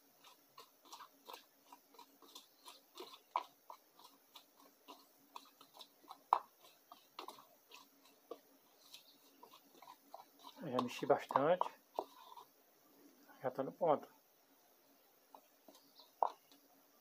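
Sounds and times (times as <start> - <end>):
spoon stirring thick paste: 0.0 - 14.2, 14.8 - 16.8.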